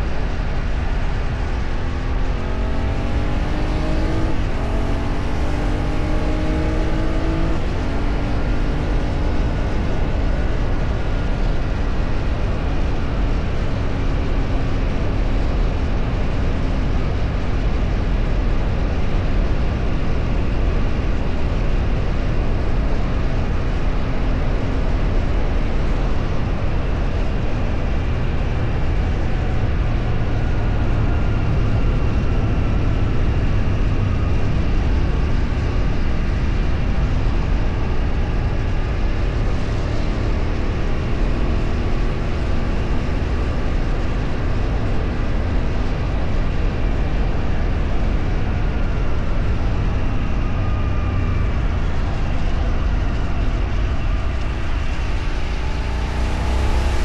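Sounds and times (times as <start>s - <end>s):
road vehicle rumbling: 0.0s - 57.0s.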